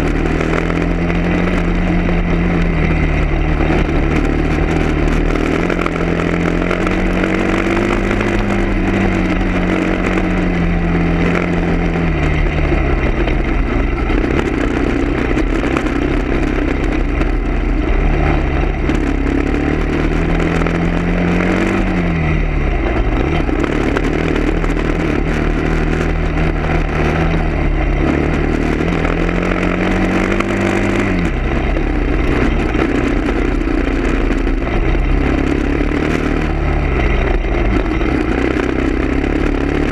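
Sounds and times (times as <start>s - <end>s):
road noise: 0.0s - 39.9s
steady rattle: 0.0s - 39.9s
vehicle engine accelerating: 0.0s - 39.9s.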